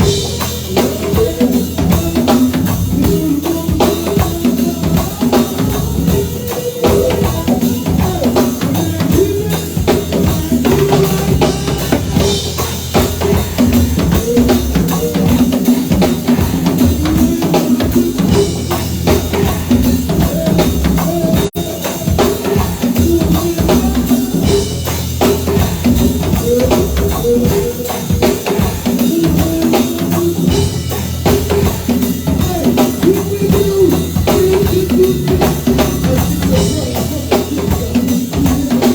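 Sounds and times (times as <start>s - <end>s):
drum kit beat: 0.0s - 38.9s
live band playing: 0.0s - 38.9s.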